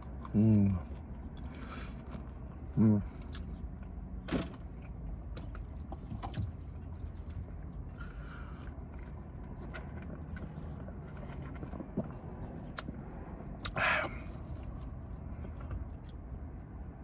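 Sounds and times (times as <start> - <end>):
person chewing food: 0.0 - 4.0, 4.6 - 16.4.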